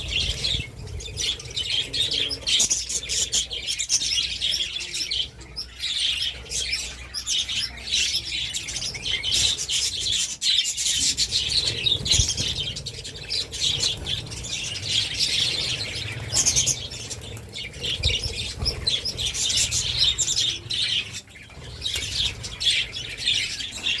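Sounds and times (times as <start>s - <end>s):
budgerigars chirping and chattering: 0.0s - 24.0s.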